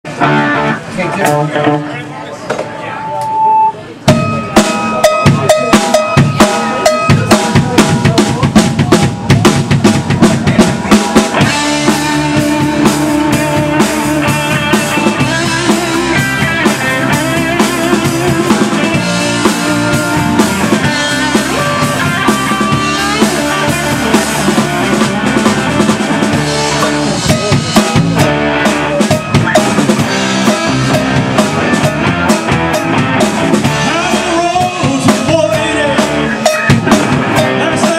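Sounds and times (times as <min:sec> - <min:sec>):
live band playing: 0:00.0 - 0:37.9.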